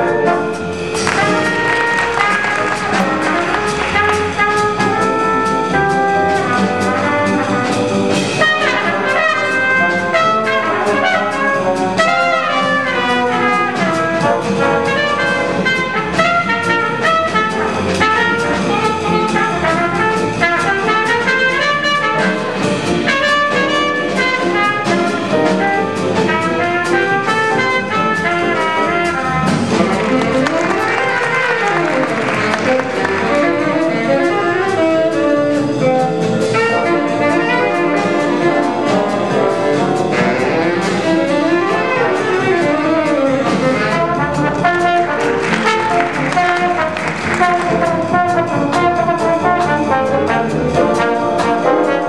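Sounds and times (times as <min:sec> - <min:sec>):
jazz big band playing: 0:00.0 - 0:52.0
trumpet solo: 0:00.0 - 0:52.0.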